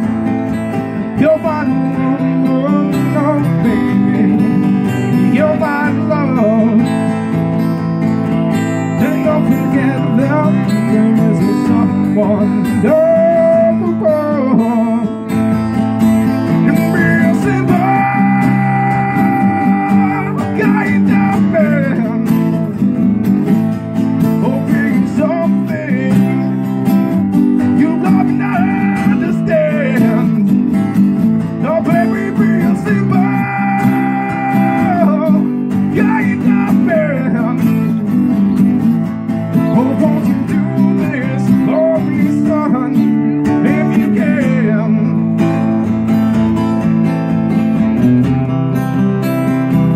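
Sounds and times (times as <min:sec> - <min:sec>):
guitar melody with held notes: 0:00.0 - 0:49.9
strummed acoustic guitar: 0:00.0 - 0:49.9.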